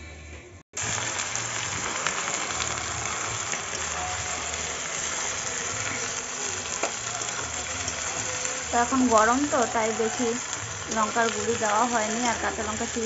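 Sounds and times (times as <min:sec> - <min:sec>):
food sizzling in a pan: 0:00.8 - 0:13.0.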